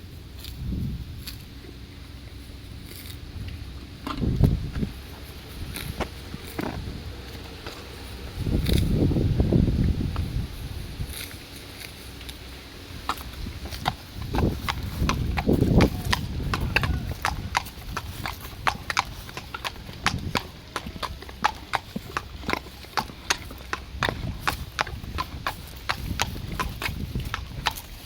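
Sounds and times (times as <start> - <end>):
horse hooves clip-clopping: 1.3 - 9.1, 9.8 - 28.0.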